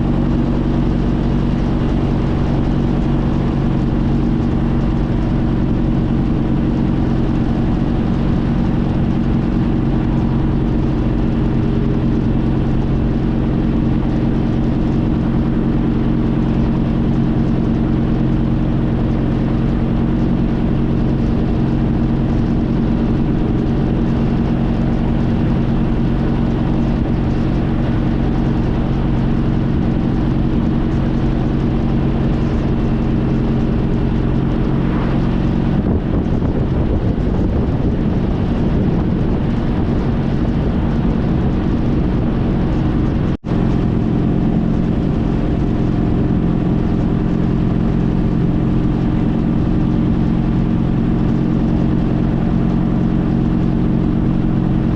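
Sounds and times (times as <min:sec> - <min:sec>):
motorcycle engine cruising: 0:00.0 - 0:54.9
steady rush of noise: 0:00.0 - 0:54.9.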